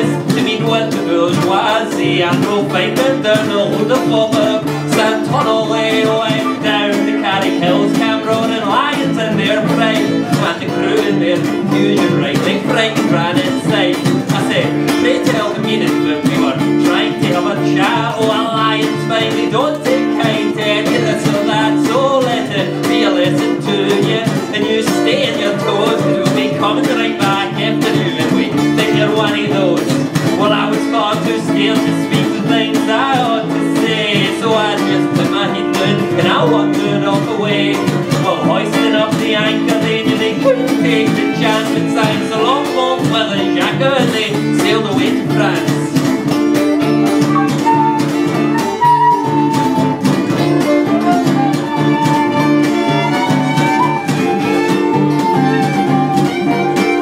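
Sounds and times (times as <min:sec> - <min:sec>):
acoustic guitar strumming: 0:00.0 - 0:57.0
man singing: 0:00.0 - 0:57.0.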